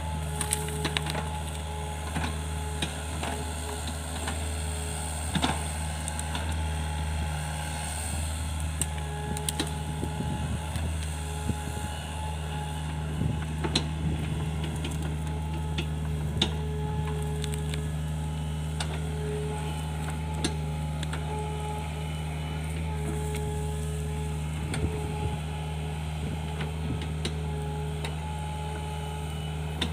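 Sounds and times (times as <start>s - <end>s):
excavator diesel engine: 0.0s - 29.9s.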